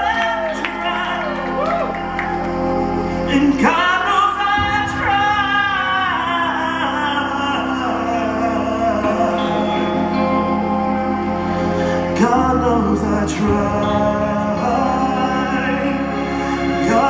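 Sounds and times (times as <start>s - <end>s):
backing music: 0.0s - 17.0s
person singing into microphone: 3.2s - 17.0s.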